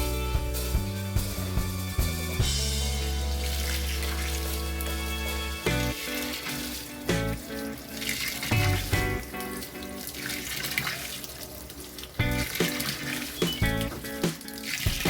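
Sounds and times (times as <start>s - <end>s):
background music sustained notes: 0.0s - 10.9s, 12.0s - 15.0s
water filling washing machine: 2.9s - 15.0s.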